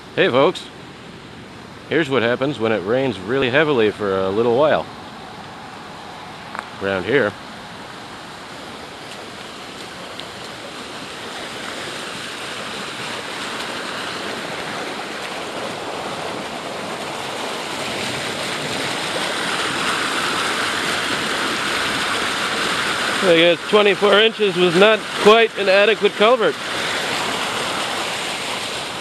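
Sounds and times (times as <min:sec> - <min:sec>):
floodwater rushing through culvert: 0:00.0 - 0:29.0.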